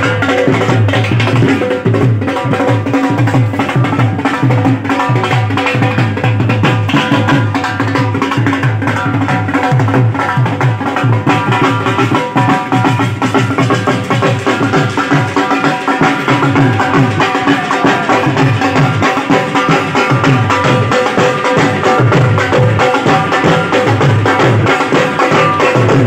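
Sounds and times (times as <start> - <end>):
drums beating fast rhythm: 0.0 - 26.0.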